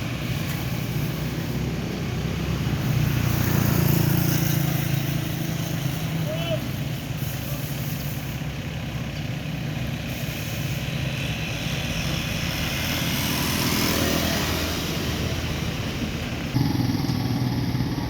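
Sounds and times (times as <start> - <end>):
traffic engines humming: 0.0 - 18.0.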